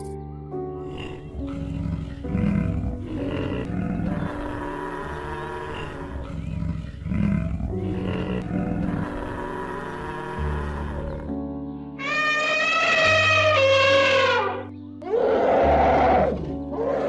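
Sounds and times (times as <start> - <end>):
buffalo bellowing and grunting: 0.8 - 11.4, 12.0 - 17.0.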